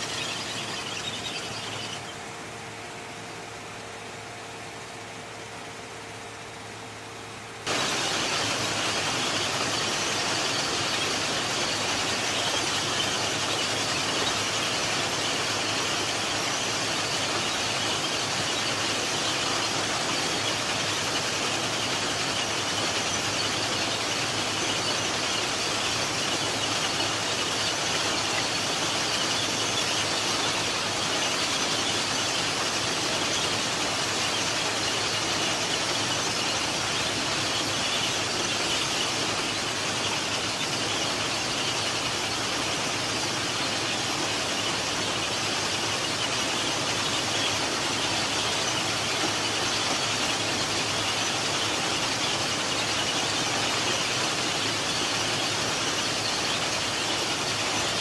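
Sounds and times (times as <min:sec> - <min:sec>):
high-pitched hissing machinery din: 0:00.0 - 0:02.8, 0:07.6 - 0:58.0.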